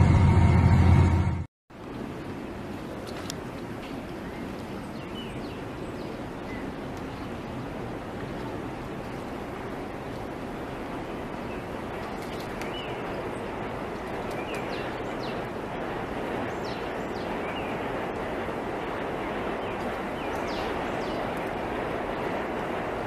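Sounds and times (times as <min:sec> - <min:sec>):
rushing water: 0:01.8 - 0:23.0.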